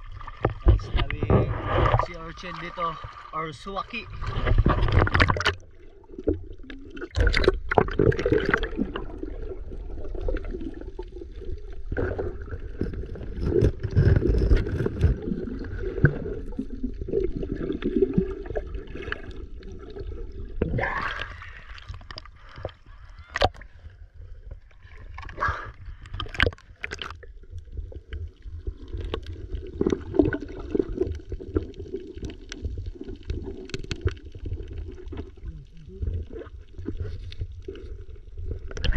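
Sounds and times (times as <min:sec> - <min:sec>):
muffled water sloshing and gurgling: 0:00.0 - 0:38.9
splashes and bubble bursts: 0:00.0 - 0:38.9.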